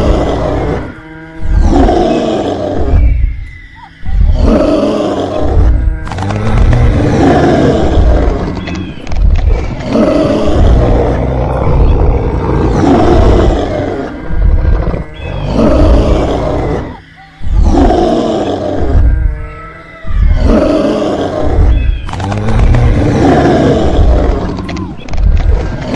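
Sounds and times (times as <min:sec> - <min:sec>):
dinosaur roars: 0:00.0 - 0:03.2, 0:04.2 - 0:25.9.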